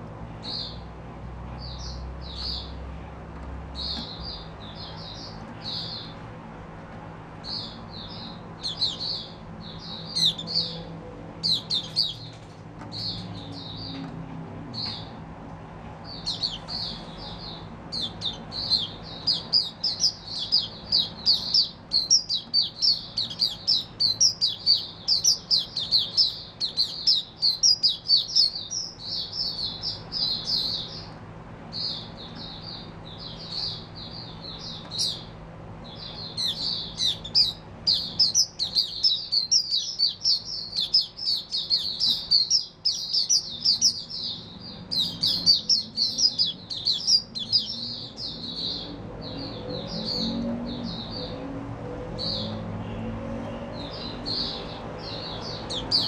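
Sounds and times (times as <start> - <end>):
bird twittering song: 0.4 - 0.9, 1.5 - 2.9, 3.6 - 6.4, 7.4 - 15.2, 16.0 - 56.0.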